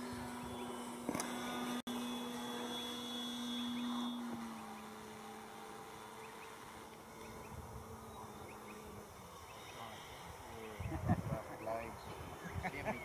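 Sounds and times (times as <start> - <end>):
model plane propeller buzzing: 0.0 - 13.0.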